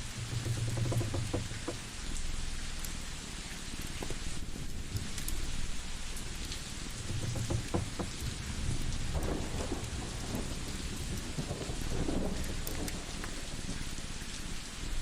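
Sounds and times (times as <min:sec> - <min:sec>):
rain-like hiss: 0:00.0 - 0:15.0
wood fire crackling: 0:00.0 - 0:15.0.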